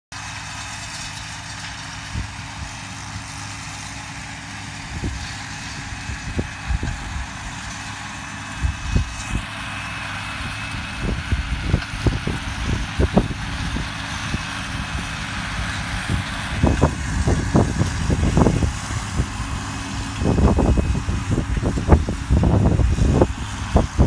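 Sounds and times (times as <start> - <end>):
engine running: 0.1 - 24.0.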